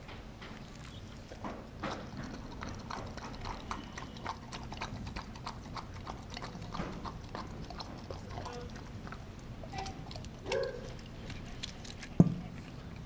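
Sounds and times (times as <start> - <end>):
dog crunching food: 0.8 - 13.0.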